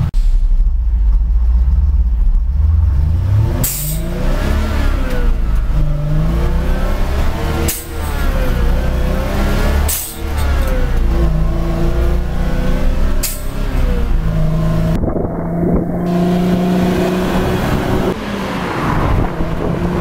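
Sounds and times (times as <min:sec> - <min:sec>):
lorry diesel engine driving: 0:00.0 - 0:20.0.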